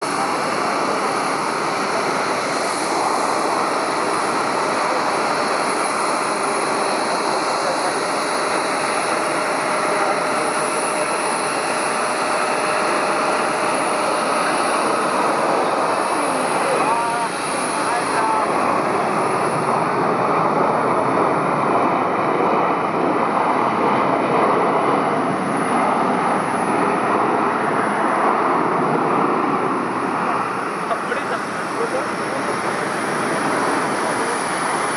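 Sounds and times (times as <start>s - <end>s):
jet airliner rushing noise: 0.0s - 34.9s.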